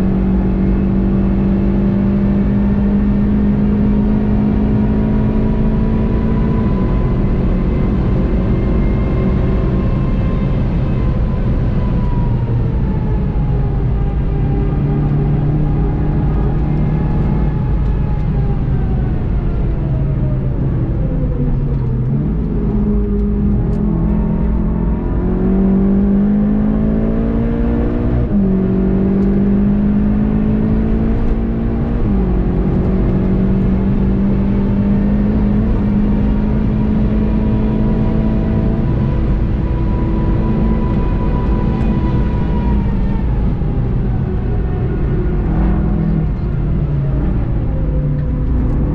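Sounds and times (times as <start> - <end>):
car engine revving: 0.0 - 48.9
road and wind noise: 0.0 - 48.9.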